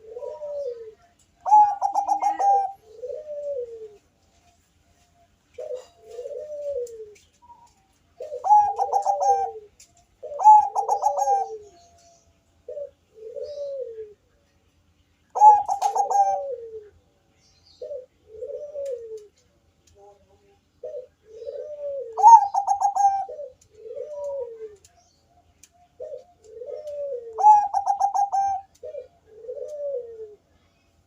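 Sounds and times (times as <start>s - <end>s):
dove cooing: 0.0s - 4.2s, 5.5s - 14.3s, 15.3s - 17.1s, 17.7s - 30.5s.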